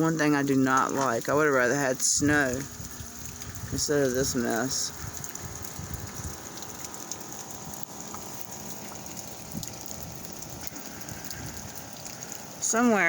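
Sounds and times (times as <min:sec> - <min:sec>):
freezing rain hiss: 0:00.0 - 0:13.0.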